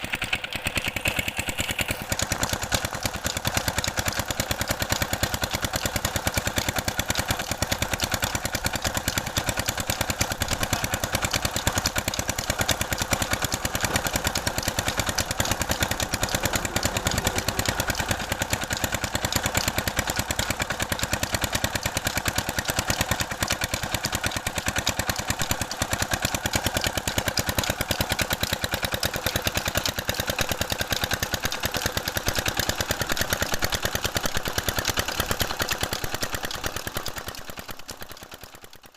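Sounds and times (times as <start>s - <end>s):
diesel engine running: 0.0s - 35.8s.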